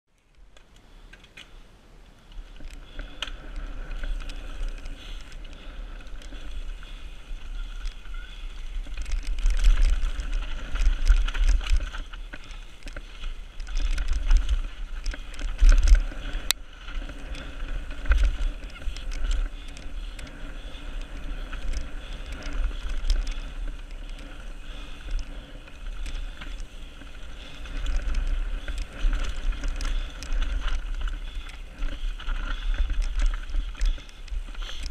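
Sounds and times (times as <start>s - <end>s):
bike rattling and clicking: 0.1s - 34.9s
wind buffeting microphone: 2.8s - 34.9s.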